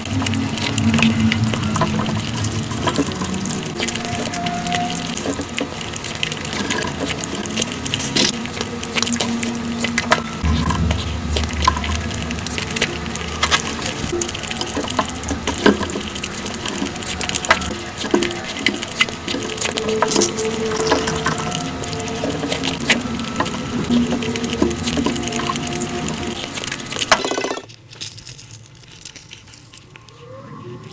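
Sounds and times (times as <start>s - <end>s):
wet chewing and smacking: 0.0s - 30.9s.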